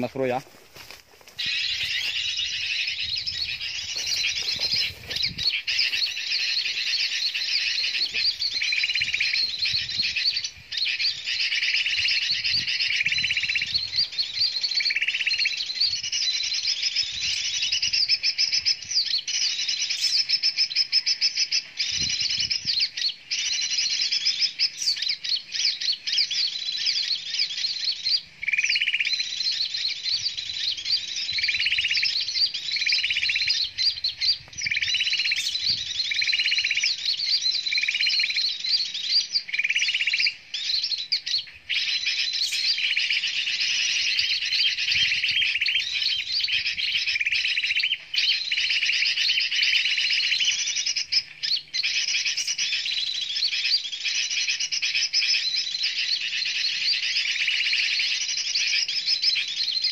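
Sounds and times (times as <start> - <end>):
lower chirped bird call: 0.0 - 59.9
small birds chirping: 0.0 - 59.9.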